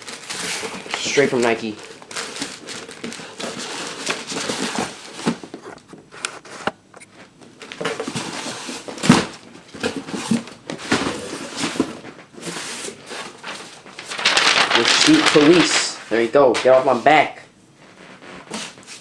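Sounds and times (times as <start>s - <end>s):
paper packing rustling and crinkling: 0.0s - 17.4s.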